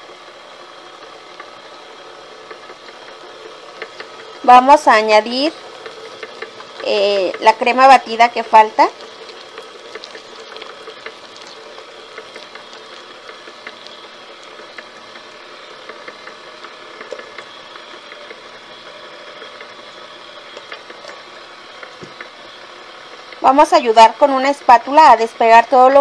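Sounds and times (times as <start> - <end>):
electric mixer running: 0.0 - 26.0.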